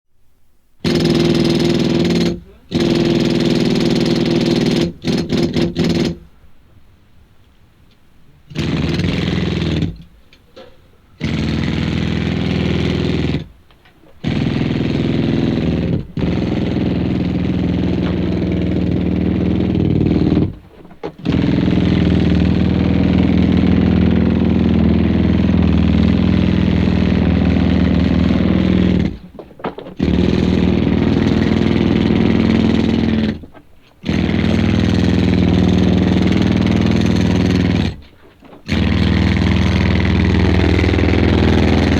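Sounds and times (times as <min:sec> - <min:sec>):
pneumatic drill running: 0:00.8 - 0:06.2, 0:08.5 - 0:41.9.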